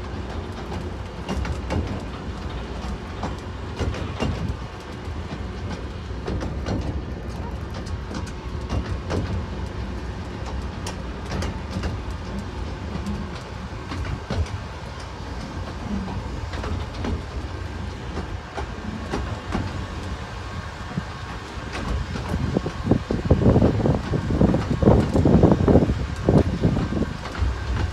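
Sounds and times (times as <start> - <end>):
miniature train rumbling: 0.0 - 27.9
wheels clicking on rails: 0.0 - 27.9.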